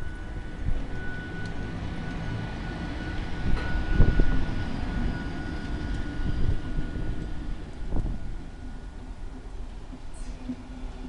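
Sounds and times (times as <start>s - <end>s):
high locomotive whine: 0.0s - 11.0s
train wheels rumbling on rail: 0.0s - 11.0s.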